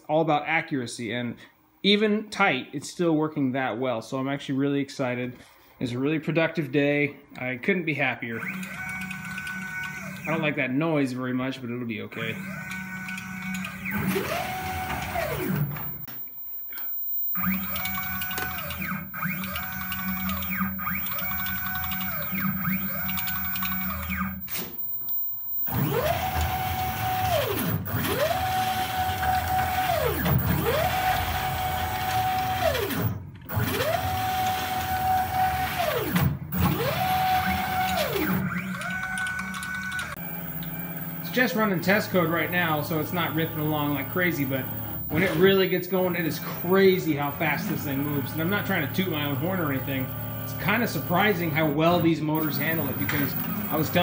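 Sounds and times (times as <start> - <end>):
stepper motor whine: 8.3 - 10.8, 12.2 - 54.0.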